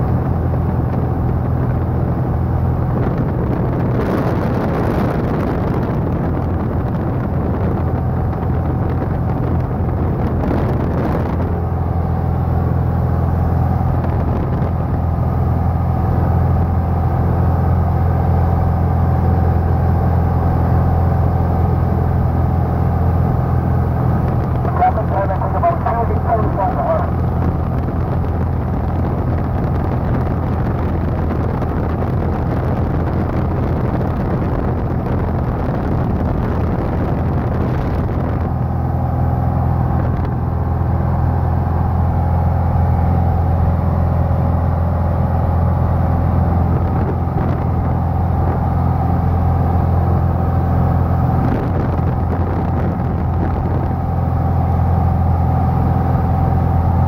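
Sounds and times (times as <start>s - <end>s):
airplane engine drone in cockpit: 0.0s - 57.0s.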